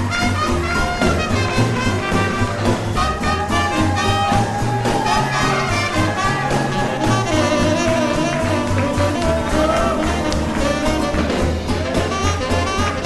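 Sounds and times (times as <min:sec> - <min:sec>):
swing band playing: 0:00.0 - 0:13.0.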